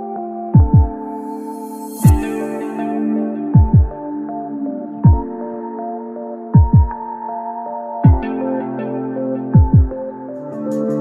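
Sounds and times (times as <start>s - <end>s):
synth chords: 0.0s - 11.0s.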